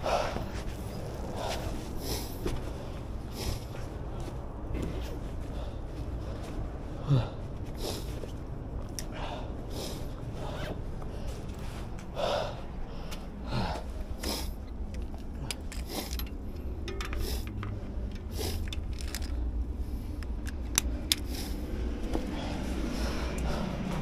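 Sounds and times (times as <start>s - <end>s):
road noise low rumble: 0.0s - 24.0s.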